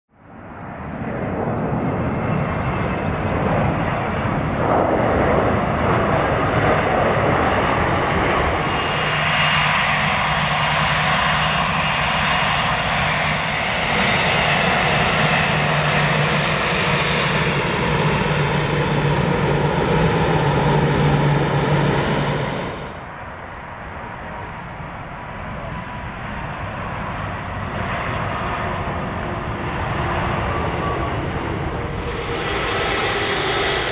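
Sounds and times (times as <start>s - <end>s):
jet engine roar: 0.2s - 33.9s.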